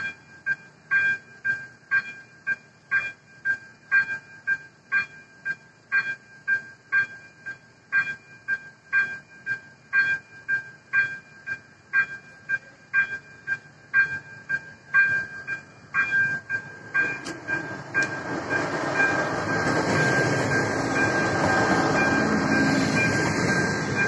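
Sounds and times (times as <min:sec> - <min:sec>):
diesel train passing: 0:00.0 - 0:24.0
level crossing bell: 0:00.0 - 0:24.0.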